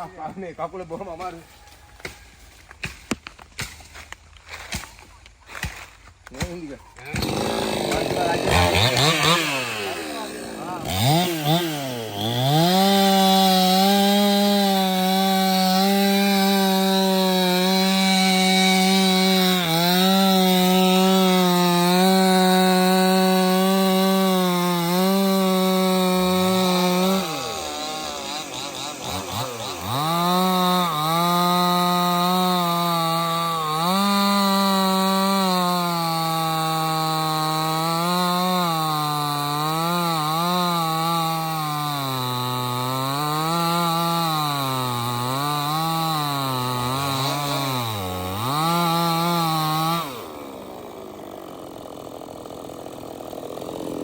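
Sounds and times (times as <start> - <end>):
chainsaw cutting wood: 2.0 - 54.0.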